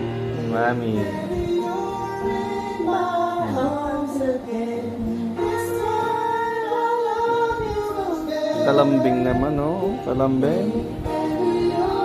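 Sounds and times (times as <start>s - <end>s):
song with sung melody: 0.0s - 12.0s.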